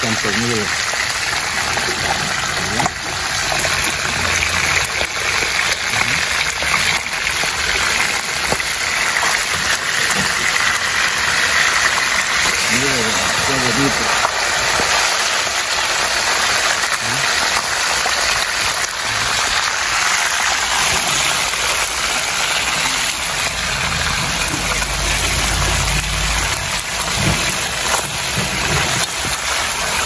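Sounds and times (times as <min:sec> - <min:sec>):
fish sizzling in hot oil: 0:00.0 - 0:30.0.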